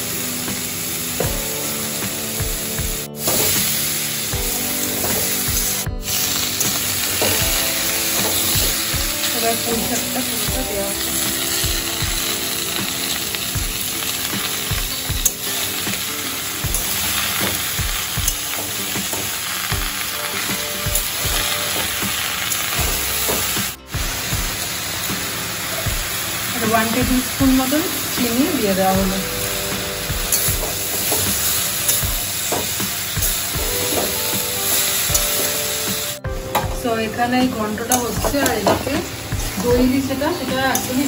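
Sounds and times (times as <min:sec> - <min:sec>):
food sizzling in hot oil: 0:00.0 - 0:36.2, 0:36.8 - 0:41.0.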